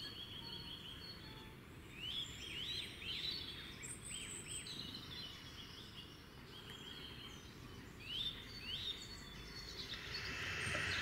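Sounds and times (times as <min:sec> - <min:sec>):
birds chirping: 0:00.0 - 0:11.0
faint outdoor hiss: 0:00.0 - 0:11.0.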